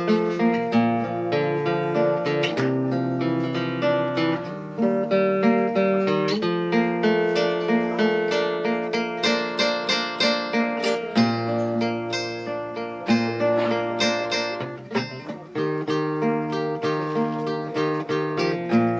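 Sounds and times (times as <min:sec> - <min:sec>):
fingerstyle classical guitar: 0:00.0 - 0:18.9.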